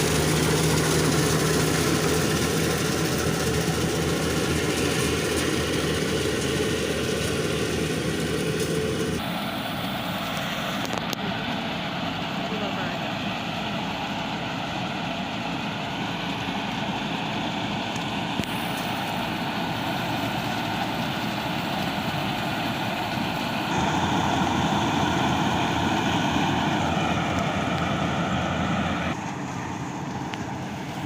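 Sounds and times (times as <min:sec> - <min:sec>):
combine harvester engine running: 0:00.0 - 0:31.0.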